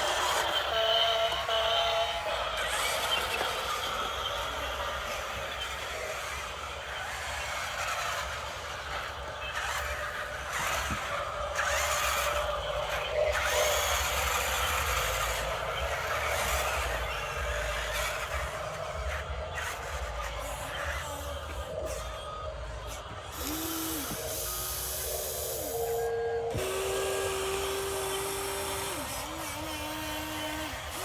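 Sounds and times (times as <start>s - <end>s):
small electric motors and gears: 0.0s - 31.0s.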